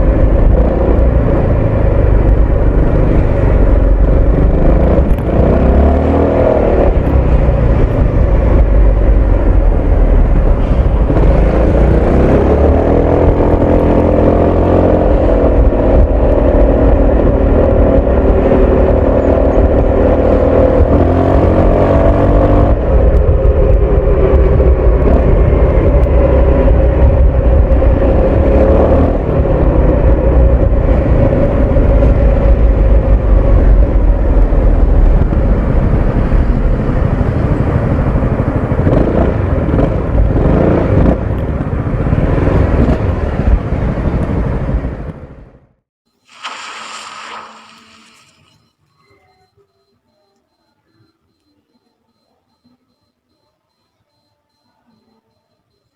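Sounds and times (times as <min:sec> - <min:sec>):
scooter engine and exhaust: 0:00.0 - 0:45.8.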